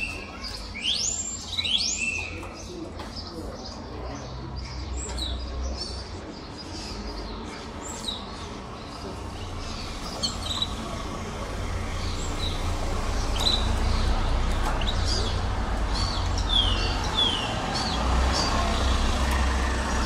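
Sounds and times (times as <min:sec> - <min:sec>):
canaries chirping: 0:00.0 - 0:20.0.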